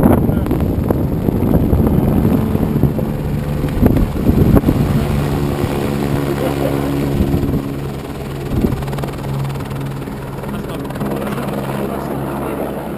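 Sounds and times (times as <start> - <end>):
helicopter flying past: 0.0 - 12.9
wind buffeting microphone: 0.0 - 12.9.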